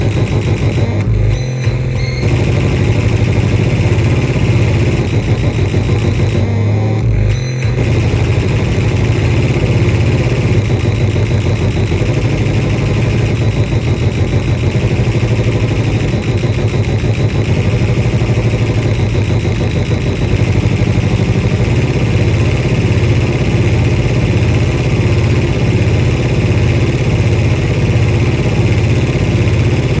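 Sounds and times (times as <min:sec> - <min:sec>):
synthesizer fast-pulsing low buzz: 0:00.0 - 0:30.0.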